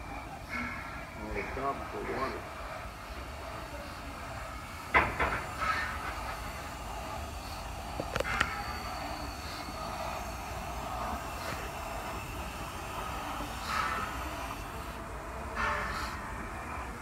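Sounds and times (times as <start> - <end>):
steam locomotive rumble and hiss: 0.0 - 17.0.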